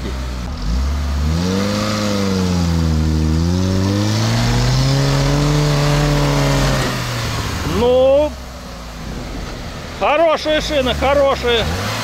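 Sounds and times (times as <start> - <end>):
car engine revving hard: 0.0 - 8.4, 9.0 - 12.0.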